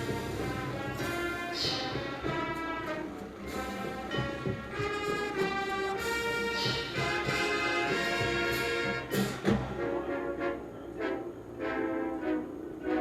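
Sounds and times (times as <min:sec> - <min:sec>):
brass playing held chords: 0:00.0 - 0:13.0.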